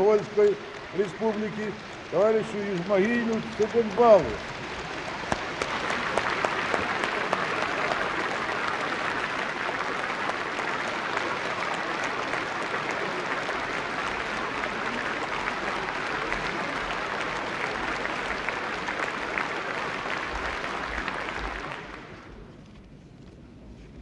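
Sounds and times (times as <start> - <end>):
audience applauding: 0.0 - 22.4.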